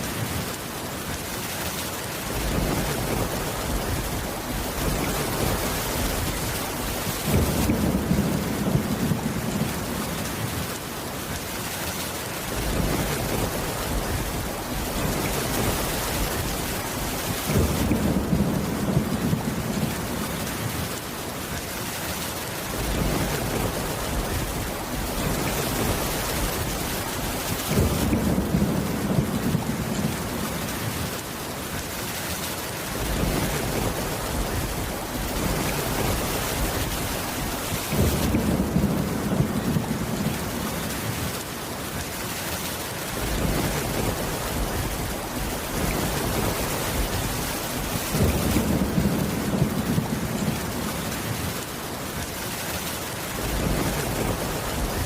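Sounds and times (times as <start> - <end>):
heavy rain: 0.0 - 55.0
low rolling thunder: 2.3 - 10.7, 12.5 - 21.0, 22.7 - 31.2, 32.9 - 41.4, 43.1 - 51.7, 53.4 - 55.0.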